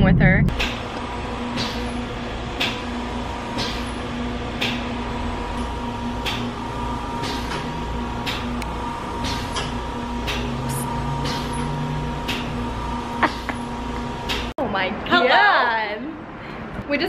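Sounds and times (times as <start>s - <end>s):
machine electrical hum: 0.0s - 17.0s.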